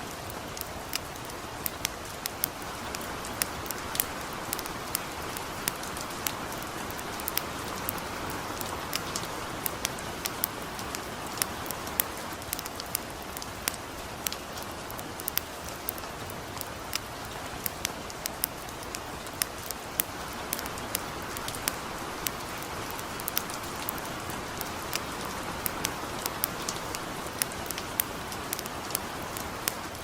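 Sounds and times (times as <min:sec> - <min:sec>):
campfire crackling and popping: 0:00.0 - 0:30.0
light rain hiss: 0:00.0 - 0:30.0.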